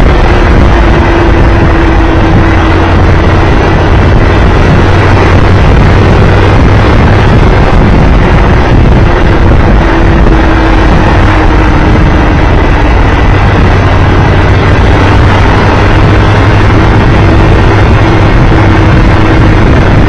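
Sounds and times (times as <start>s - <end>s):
motorcycle engine running: 0.0s - 20.0s
road and wind rush: 0.0s - 20.0s.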